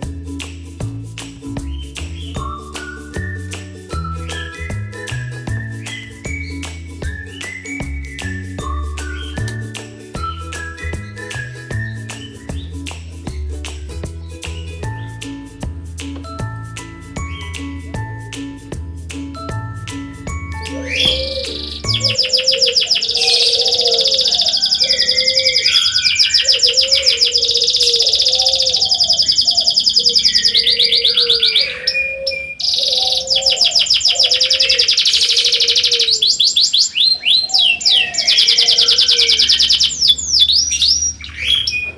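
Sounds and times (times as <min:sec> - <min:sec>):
canary singing trills: 0:01.6 - 0:12.9, 0:17.1 - 0:17.9, 0:20.0 - 0:41.9.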